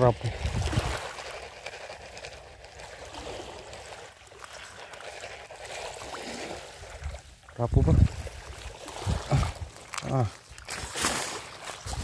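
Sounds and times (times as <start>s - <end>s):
seawater lapping: 0.0s - 12.0s.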